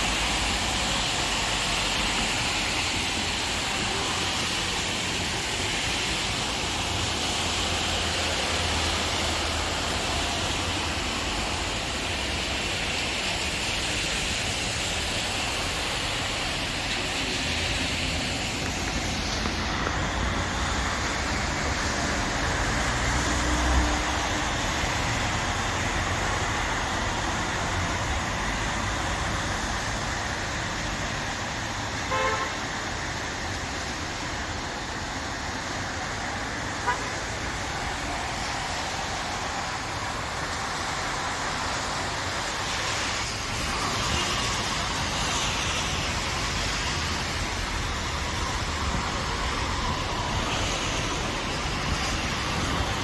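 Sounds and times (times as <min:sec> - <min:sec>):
rain and wind hissing: 0:00.0 - 0:53.0.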